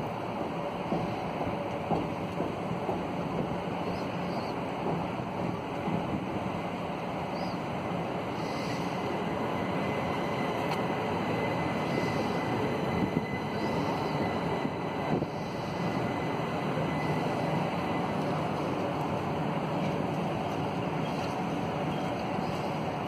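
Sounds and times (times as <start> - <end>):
train wheels running on rails: 0.0 - 23.0.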